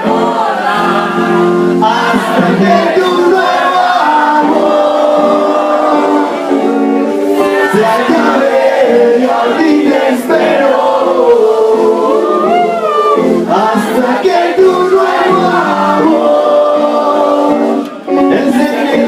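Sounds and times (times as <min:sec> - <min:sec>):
band playing: 0:00.0 - 0:19.0
voices singing together: 0:00.0 - 0:19.0.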